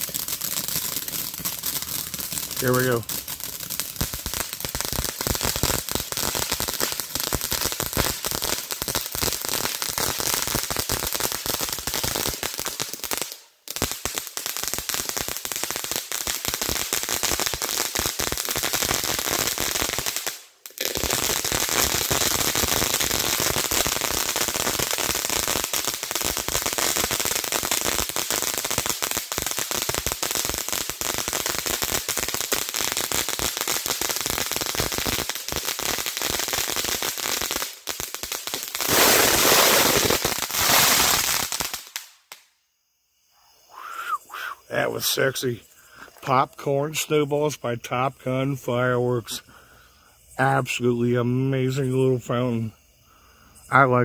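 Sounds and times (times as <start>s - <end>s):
firework fountain crackling and hissing: 0.0s - 54.0s.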